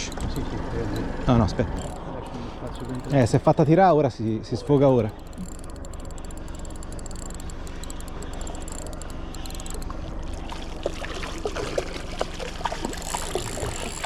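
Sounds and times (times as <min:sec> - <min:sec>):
splashy ticks: 0:00.0 - 0:10.0, 0:10.8 - 0:14.0
steady low hum: 0:00.0 - 0:11.0, 0:11.9 - 0:14.0
water sloshing against boat hull: 0:00.0 - 0:14.0.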